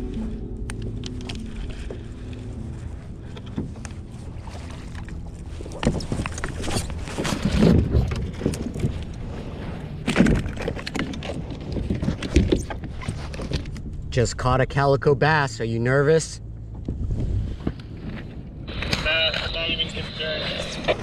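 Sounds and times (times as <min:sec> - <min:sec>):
water noise: 0:00.0 - 0:21.0
wind: 0:00.0 - 0:21.0.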